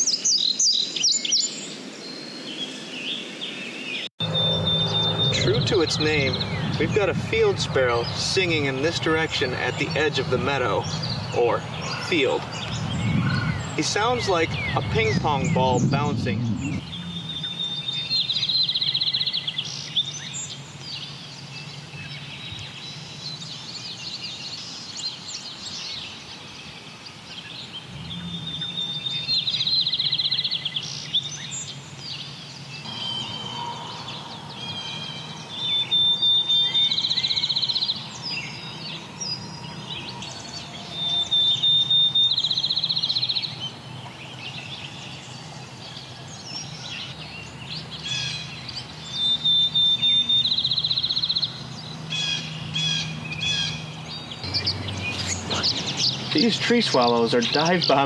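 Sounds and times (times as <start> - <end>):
sparrow song with fast trill: 0.0 - 58.0
faint bird chirps: 9.4 - 58.0.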